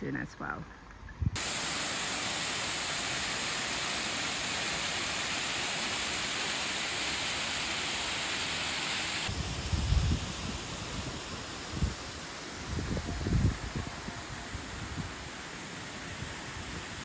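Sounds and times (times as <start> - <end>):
falling water rushing: 1.4 - 17.0.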